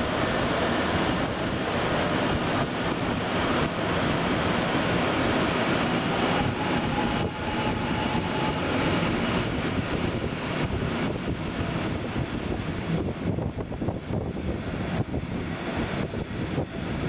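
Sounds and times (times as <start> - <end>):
train rolling noise: 0.0 - 17.0
wind buffeting microphone: 0.0 - 17.0.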